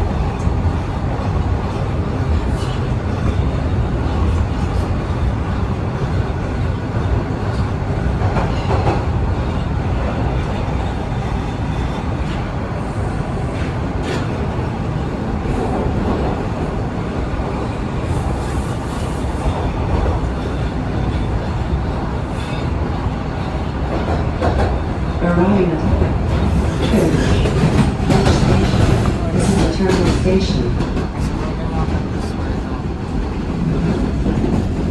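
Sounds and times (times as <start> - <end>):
subway train wheels rumbling on rail: 0.0 - 34.9.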